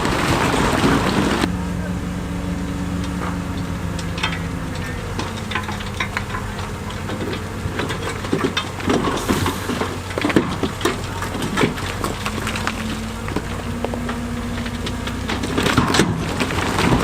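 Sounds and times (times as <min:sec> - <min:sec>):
heavy machinery diesel engine: 0:00.0 - 0:17.0
knocks and clatter: 0:02.6 - 0:17.0.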